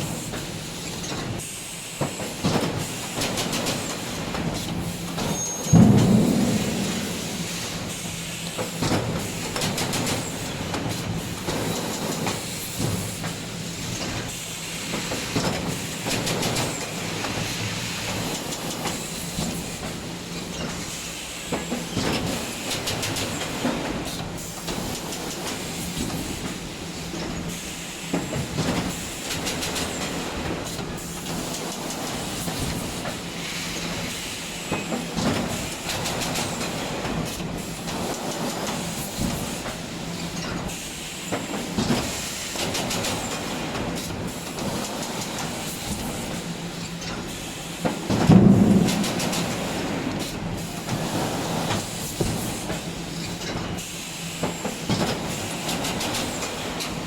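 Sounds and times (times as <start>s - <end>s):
machine clanking and clicking: 0.2s - 1.4s, 2.0s - 57.0s.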